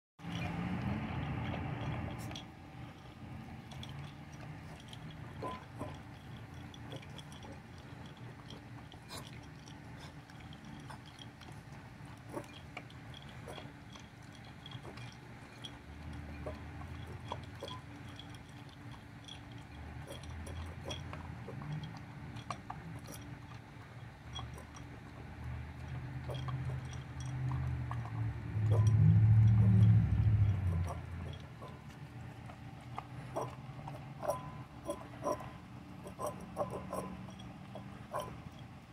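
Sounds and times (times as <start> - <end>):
puppy lapping water: 0.2 - 38.9
steady low hum: 0.2 - 38.9.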